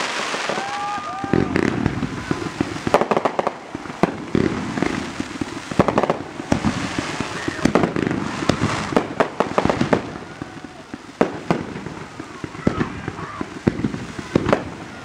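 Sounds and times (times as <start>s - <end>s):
fireworks popping and crackling: 0.0s - 15.0s
hiss of burning sparks: 0.0s - 15.0s.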